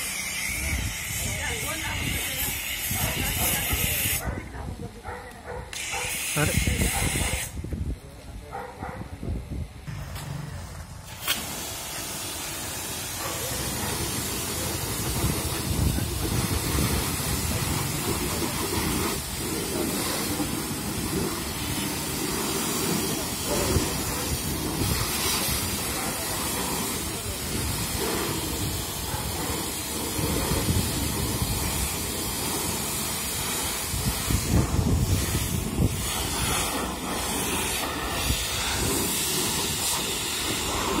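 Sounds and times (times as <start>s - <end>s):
pressure washer spraying: 0.0s - 4.4s, 5.8s - 7.6s, 9.9s - 41.0s.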